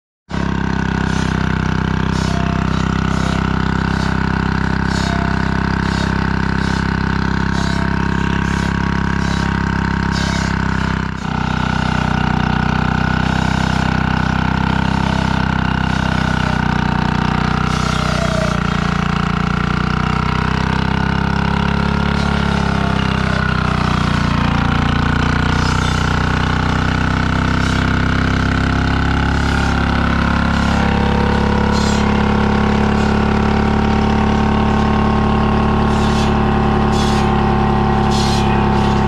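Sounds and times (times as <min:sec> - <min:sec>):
diesel tractor engine running: 0:00.3 - 0:39.0.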